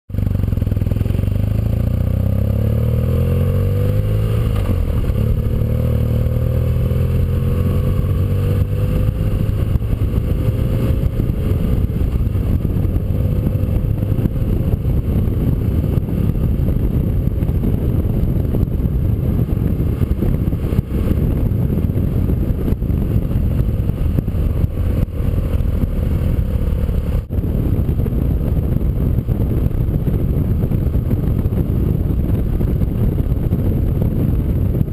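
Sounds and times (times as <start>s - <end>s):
motorcycle engine accelerating: 0.1s - 34.9s
road noise: 0.1s - 34.9s.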